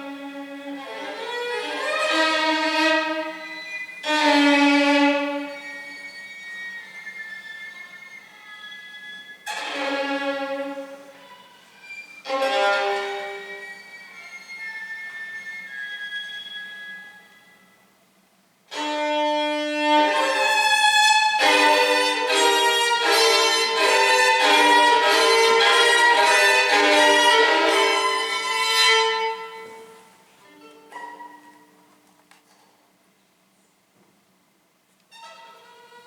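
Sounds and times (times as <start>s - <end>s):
solo violin melody: 0.0s - 17.8s, 18.7s - 31.8s, 35.1s - 36.0s.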